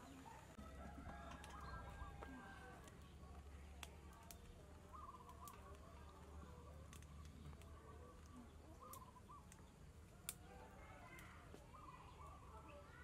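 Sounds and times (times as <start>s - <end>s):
bird chirping faintly: 1.5s - 13.0s.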